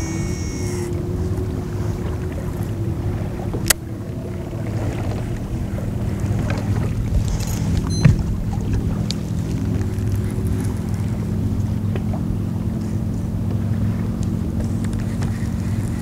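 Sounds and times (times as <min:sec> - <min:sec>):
faint steady hum: 0:00.0 - 0:16.0
wind buffeting microphone: 0:00.0 - 0:16.0.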